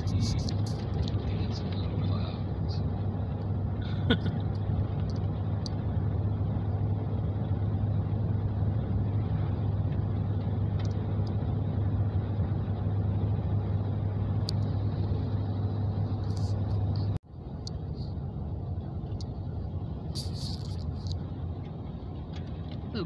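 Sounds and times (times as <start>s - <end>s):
car engine drone: 0.0s - 23.0s
tyres on road: 0.0s - 23.0s.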